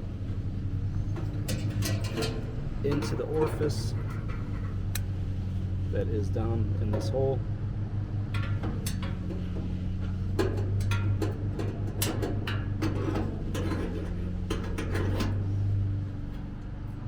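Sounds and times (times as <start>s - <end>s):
steady low hum: 0.0s - 17.0s
metal grill parts clanking: 0.9s - 5.0s, 6.3s - 7.4s, 8.2s - 16.8s.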